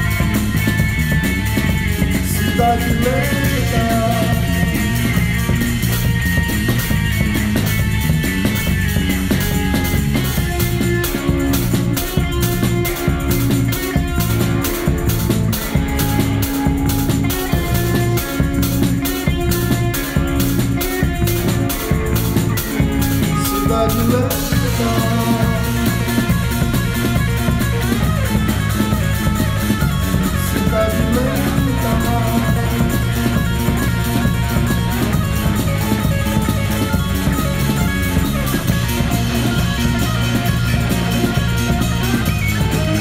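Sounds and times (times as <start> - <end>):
drum kit: 0.0 - 43.0
electric bass: 0.0 - 43.0
electric guitar: 0.0 - 43.0.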